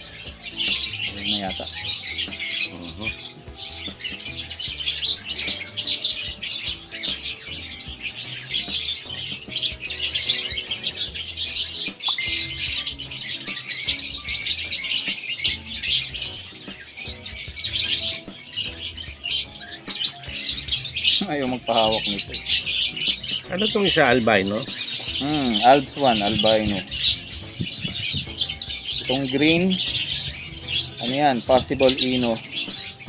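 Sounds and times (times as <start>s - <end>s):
faint music: 0.0s - 33.0s
parrot chicks chirping: 0.0s - 33.0s.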